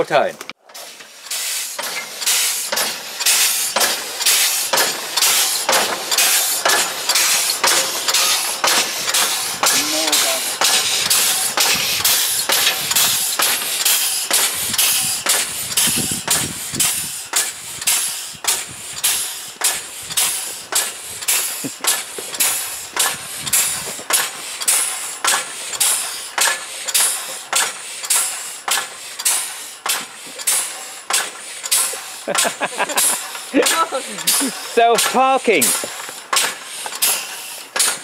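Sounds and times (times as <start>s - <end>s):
air locomotive rhythmic hissing: 0.0s - 38.0s.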